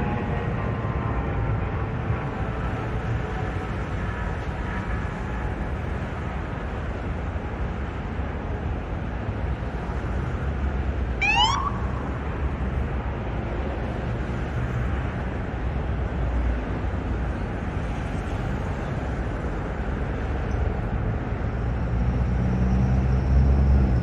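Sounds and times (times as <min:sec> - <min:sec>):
low city rumble: 0:00.0 - 0:24.0.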